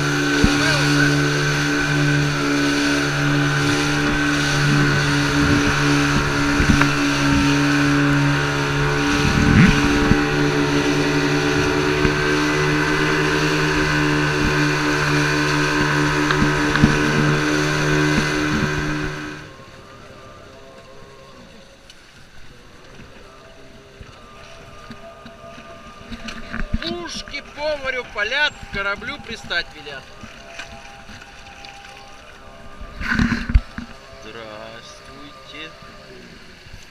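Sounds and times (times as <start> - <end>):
outboard motor running: 0.0 - 36.9
water noise: 0.0 - 36.9
wind: 0.0 - 36.9.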